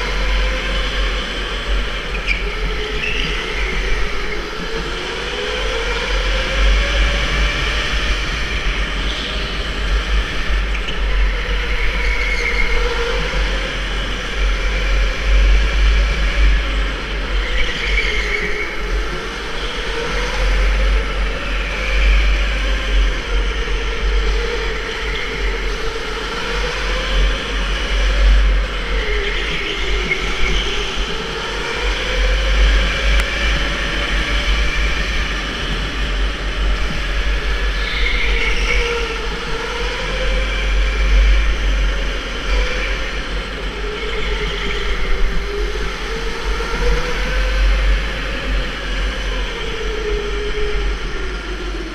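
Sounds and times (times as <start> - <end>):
electric kart motor whining: 0.0 - 51.9
wind rumble on microphone: 0.0 - 51.9.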